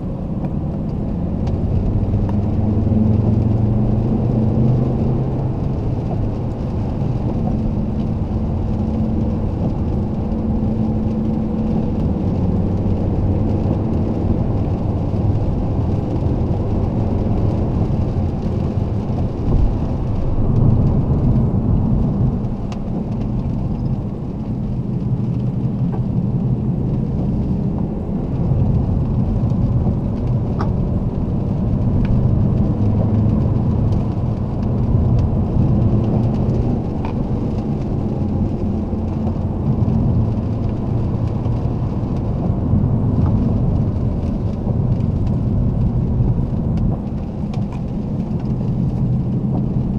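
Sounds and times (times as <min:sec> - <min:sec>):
diesel car engine accelerating: 0:00.0 - 0:49.9
tyre and road rumble: 0:00.0 - 0:49.9.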